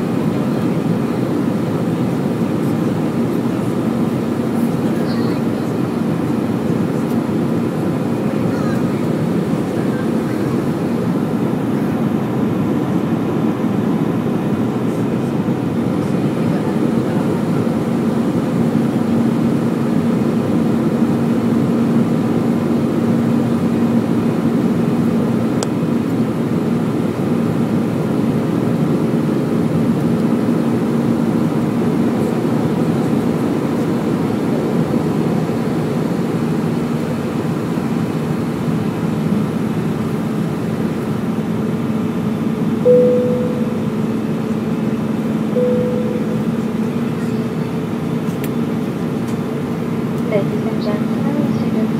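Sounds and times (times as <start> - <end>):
jet engine and airflow rumble: 0.0 - 51.9.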